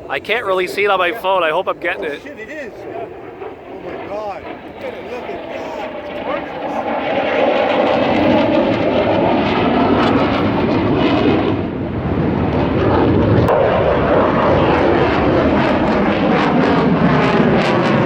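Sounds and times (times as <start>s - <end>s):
fighter jet engine roaring overhead: 0.0s - 18.0s.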